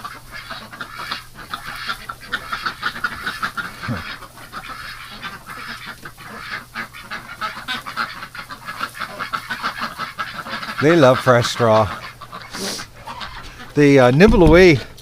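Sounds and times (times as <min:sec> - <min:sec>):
ducks quacking: 0:00.0 - 0:15.0
geese honking: 0:00.0 - 0:15.0.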